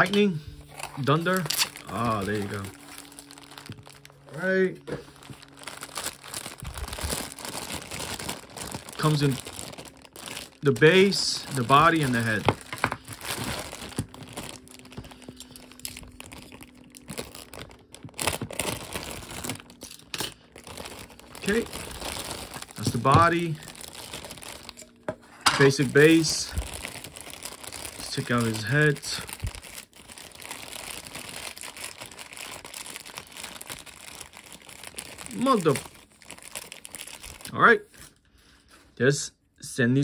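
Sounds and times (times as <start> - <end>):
plastic bag crinkling: 0.0 - 38.2.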